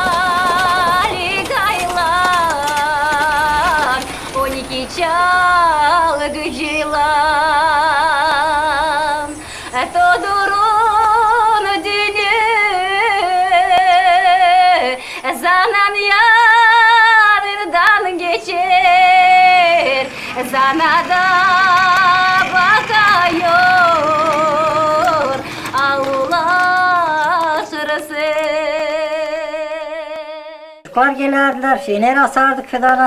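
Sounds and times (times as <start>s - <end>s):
woman singing with vibrato: 0.0s - 33.0s.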